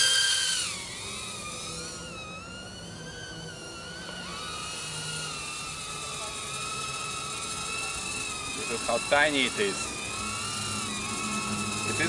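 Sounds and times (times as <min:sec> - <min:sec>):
micro drone motor whine: 0:00.0 - 0:12.0.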